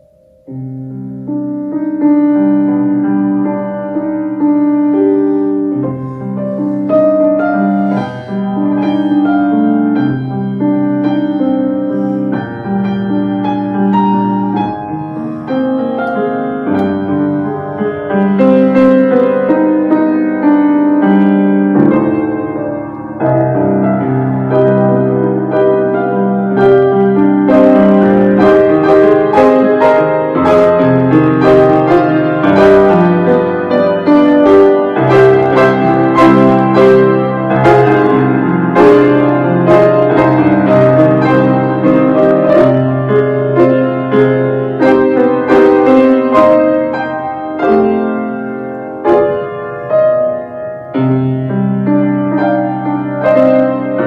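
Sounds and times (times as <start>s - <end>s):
grand piano chords: 0.0s - 54.0s.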